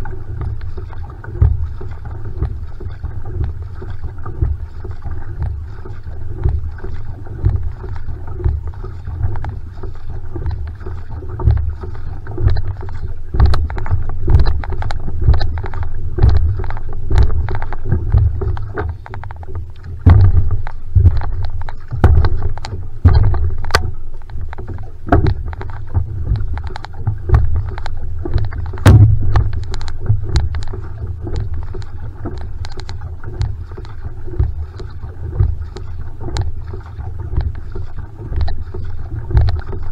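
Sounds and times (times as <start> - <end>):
constant low rumble: 0.0 - 39.9
paddle splashing in water: 0.0 - 39.9.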